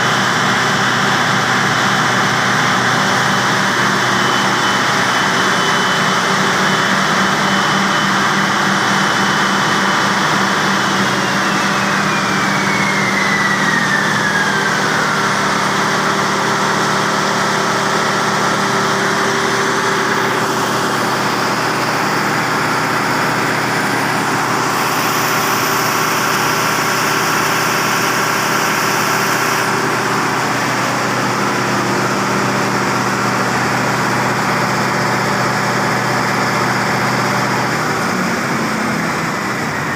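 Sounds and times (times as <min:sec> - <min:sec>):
diesel generator running: 0:00.0 - 0:39.9
high whine sliding down: 0:00.2 - 0:39.9.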